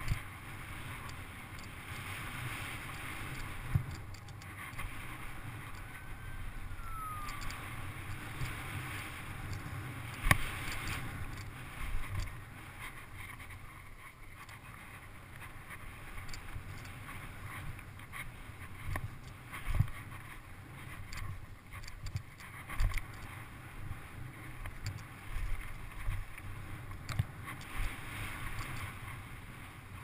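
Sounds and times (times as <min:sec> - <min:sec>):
wind on microphone: 0:00.0 - 0:30.0.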